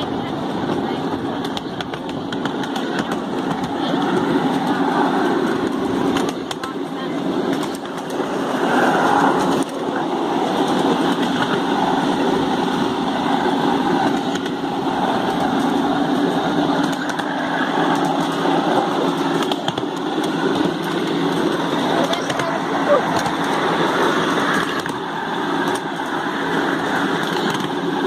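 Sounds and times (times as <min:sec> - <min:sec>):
miniature train rumbling on track: 0:00.0 - 0:28.0.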